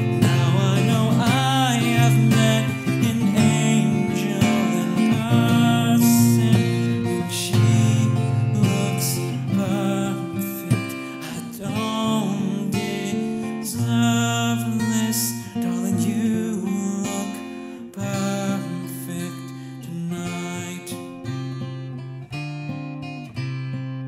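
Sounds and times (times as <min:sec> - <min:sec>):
man singing: 0:00.0 - 0:21.5
acoustic guitar strumming: 0:00.0 - 0:24.0.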